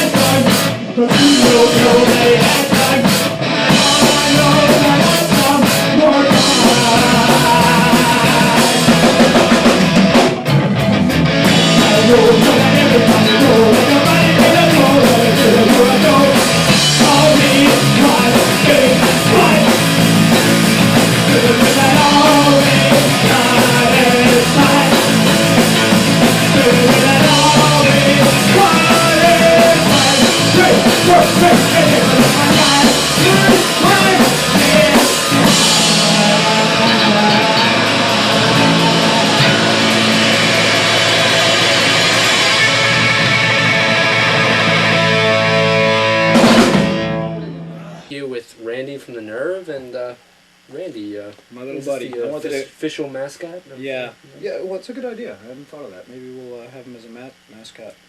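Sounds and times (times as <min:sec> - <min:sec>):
loud punk rock song: 0:00.0 - 0:48.0.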